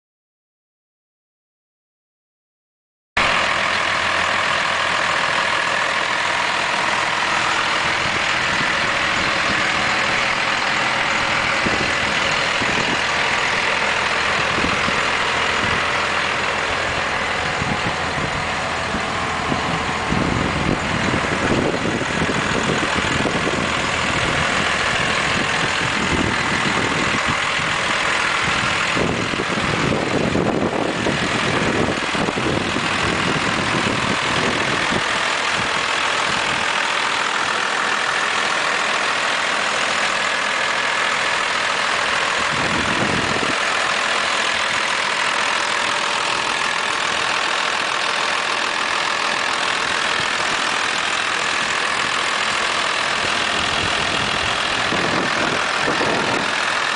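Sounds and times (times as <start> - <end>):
diesel truck engine idling: 3.2 - 56.9.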